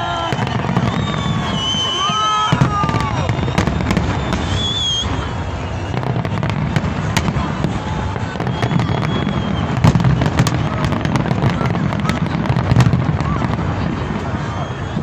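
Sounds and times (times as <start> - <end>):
fireworks cracks and pops: 0.0 - 15.0
fireworks rumble: 0.0 - 15.0.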